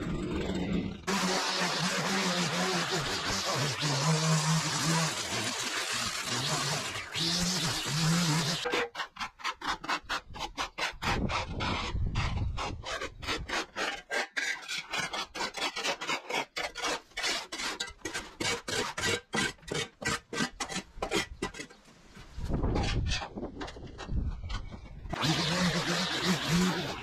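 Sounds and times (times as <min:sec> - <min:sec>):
rake scraping concrete: 0:00.0 - 0:27.0
shovel scraping concrete: 0:00.4 - 0:21.8, 0:22.4 - 0:27.0.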